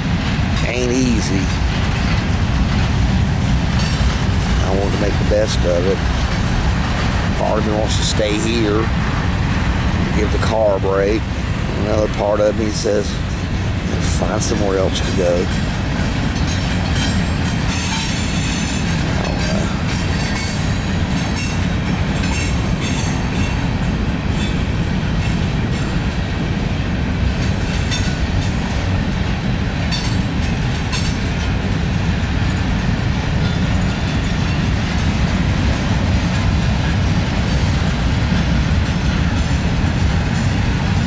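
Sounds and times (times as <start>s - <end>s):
freight train rumbling past: 0.0s - 41.0s
wheels clacking and rattling: 0.0s - 41.0s.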